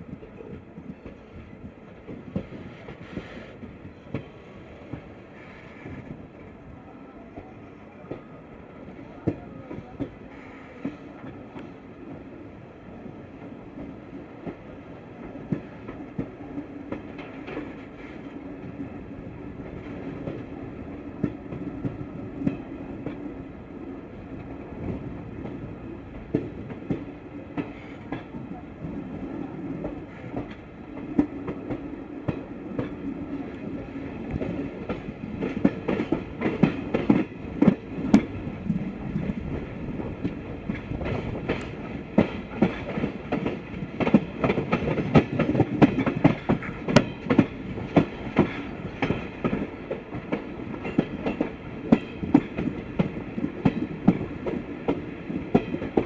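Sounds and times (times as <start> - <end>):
train coach rumble and hum: 0.0 - 56.0.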